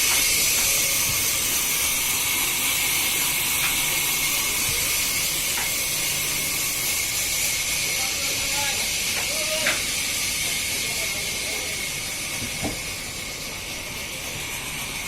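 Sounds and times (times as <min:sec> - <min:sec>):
sawmill machinery hiss and rumble: 0:00.0 - 0:15.0.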